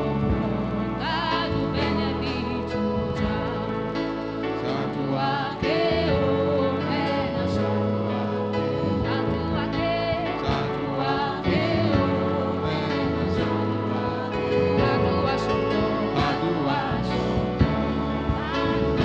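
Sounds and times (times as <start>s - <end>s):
sustained held chords: 0.0s - 19.0s
voices singing gospel music: 0.0s - 19.0s.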